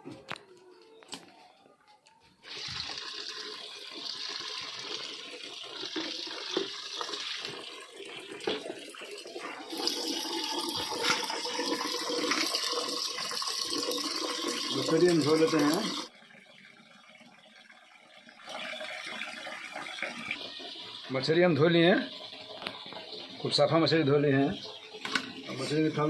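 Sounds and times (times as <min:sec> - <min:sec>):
water running into plastic bucket: 0:02.4 - 0:26.0.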